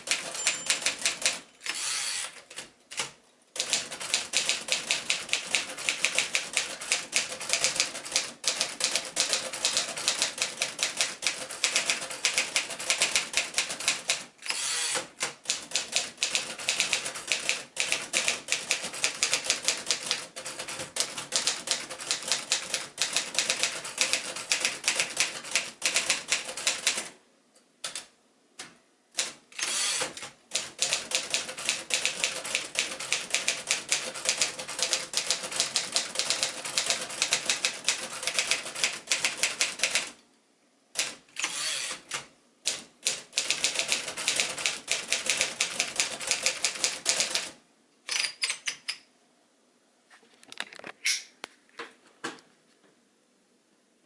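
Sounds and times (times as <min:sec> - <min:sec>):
typewriter typing: 0:00.0 - 0:27.2, 0:29.2 - 0:40.2, 0:41.0 - 0:47.6.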